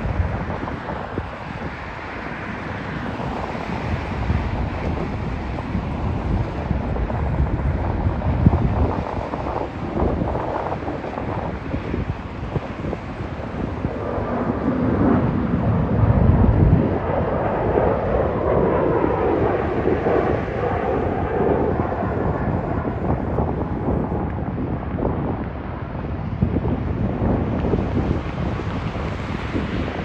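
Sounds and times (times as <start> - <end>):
jet engines at takeoff power: 0.0 - 30.0.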